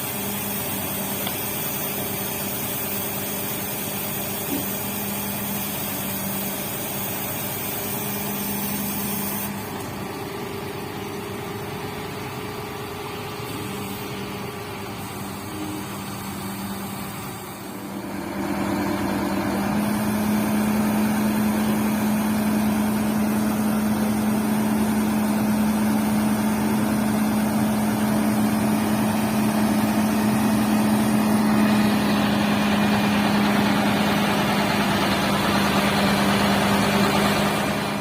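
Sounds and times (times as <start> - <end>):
heavy vehicle engine running: 0.0 - 38.0.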